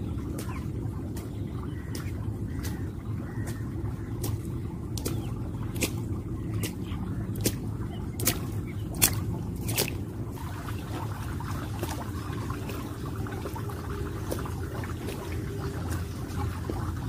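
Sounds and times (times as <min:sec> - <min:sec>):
boots splashing through water: 0:00.0 - 0:17.0.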